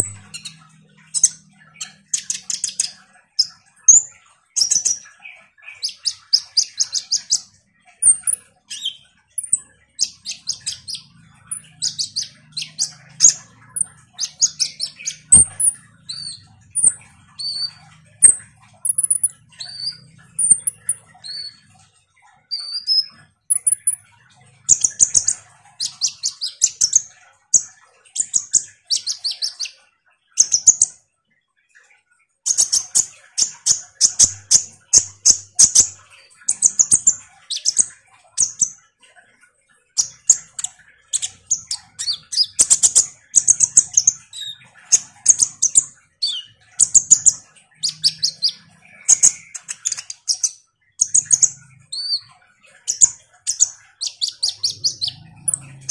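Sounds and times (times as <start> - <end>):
bird buzzy ticking chatter: 0.0 - 29.8, 30.4 - 31.0, 32.4 - 38.9, 39.8 - 55.9.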